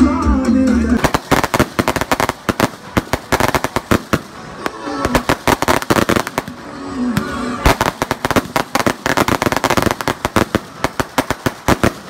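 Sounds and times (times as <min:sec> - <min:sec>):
fireworks bangs and crackles: 0:01.0 - 0:12.0.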